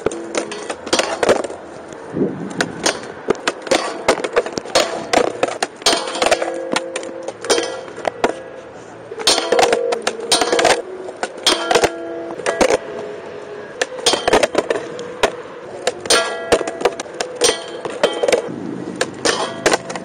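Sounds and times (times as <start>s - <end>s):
skateboard knocks and clangs: 0.0s - 1.6s, 2.5s - 13.1s, 13.7s - 20.0s
skateboard grinding on metal rail: 0.0s - 20.0s.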